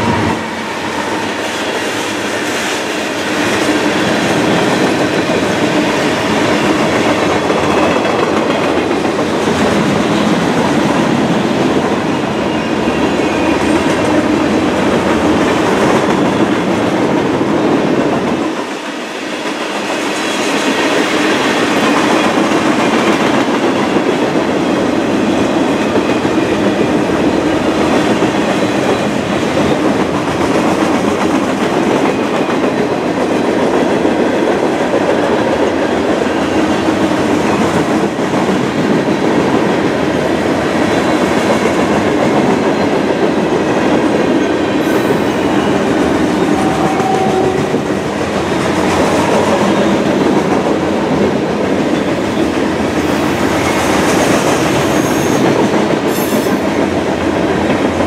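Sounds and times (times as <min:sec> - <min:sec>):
freight train wheels rattling: 0:00.0 - 0:58.0.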